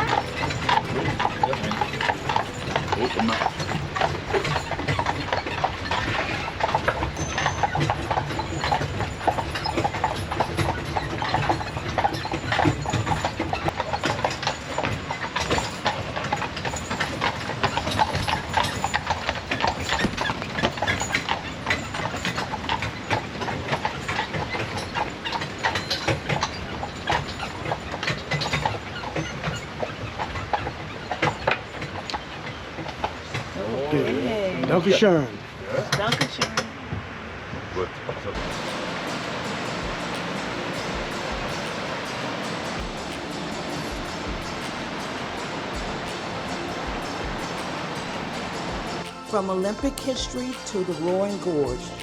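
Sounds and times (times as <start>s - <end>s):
carriage wheels rumbling: 0.0s - 34.1s, 38.4s - 52.0s
horse hooves clip-clopping: 0.0s - 35.1s, 38.4s - 52.0s.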